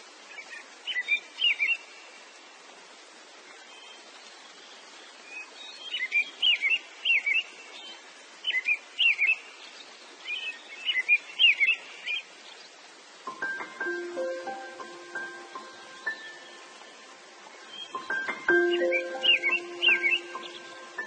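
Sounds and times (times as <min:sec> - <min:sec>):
steady hiss: 0:00.0 - 0:21.0
songbird chirping: 0:00.2 - 0:21.0.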